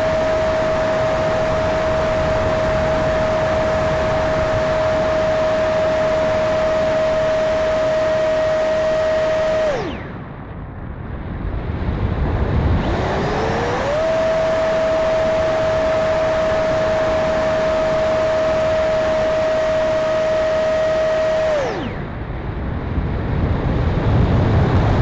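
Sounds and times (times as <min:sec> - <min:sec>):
electric ducted fan whining: 0:00.0 - 0:25.0.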